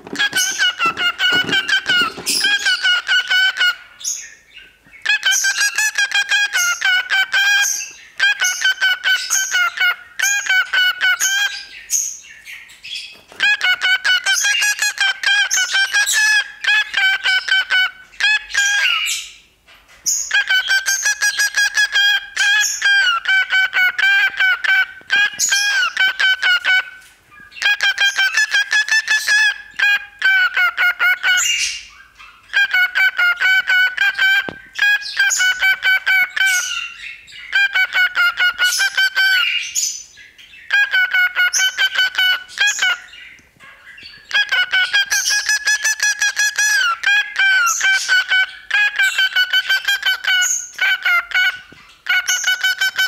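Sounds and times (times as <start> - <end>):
cockatiel whistling calls: 0.0 - 19.4, 20.0 - 53.0.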